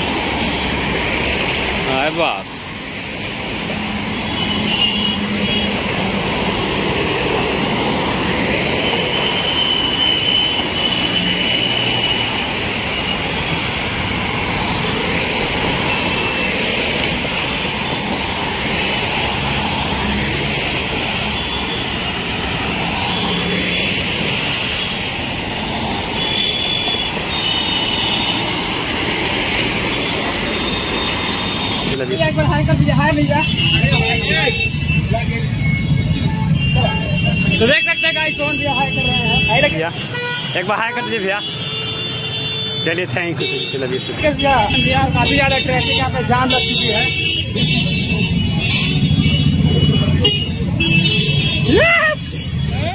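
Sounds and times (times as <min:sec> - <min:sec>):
traffic engines and tyres rushing: 0:00.0 - 0:52.9.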